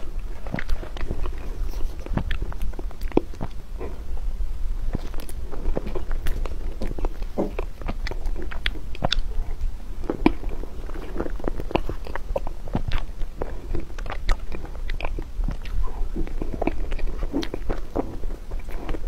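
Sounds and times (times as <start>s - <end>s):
chewing and mouth sounds: 0.0s - 4.0s, 4.9s - 19.0s.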